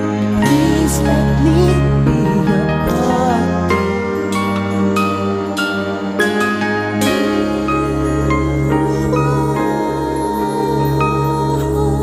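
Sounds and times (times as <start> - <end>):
slow pop ballad instrumental: 0.0 - 12.0.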